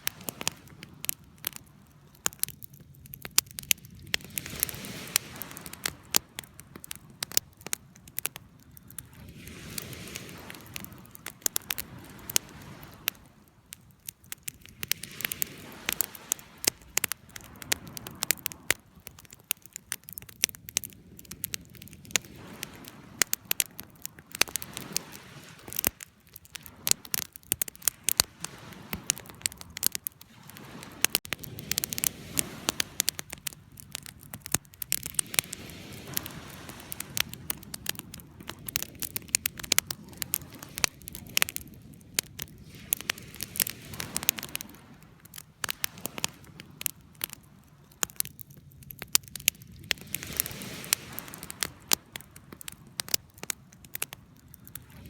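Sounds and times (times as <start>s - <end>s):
wood fire crackling and popping: 0.0s - 55.0s
rush of flame: 3.5s - 8.2s, 8.8s - 13.3s, 14.4s - 55.0s.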